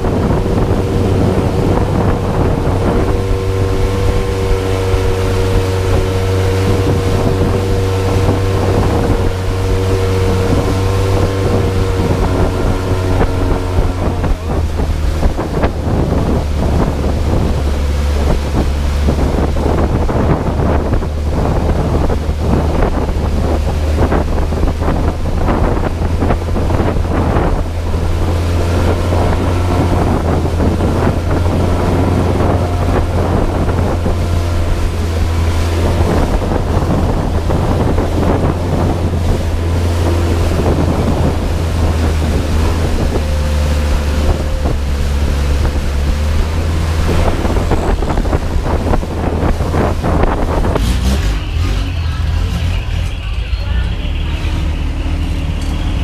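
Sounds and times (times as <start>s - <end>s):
motorboat engine droning: 0.0s - 56.0s
wind noise on microphone: 0.0s - 56.0s.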